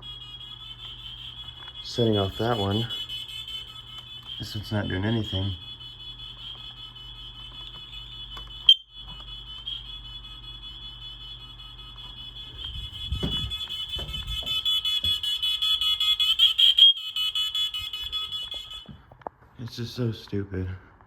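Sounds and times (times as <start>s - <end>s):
smoke alarm tone: 0.0s - 19.2s.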